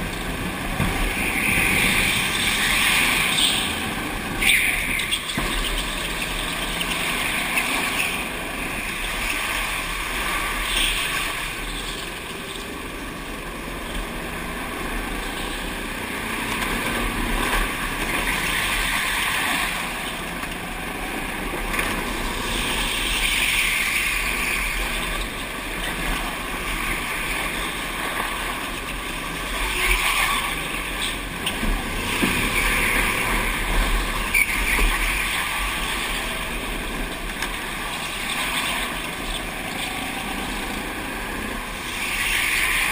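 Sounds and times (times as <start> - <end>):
go-kart engine running: 0.0 - 42.9.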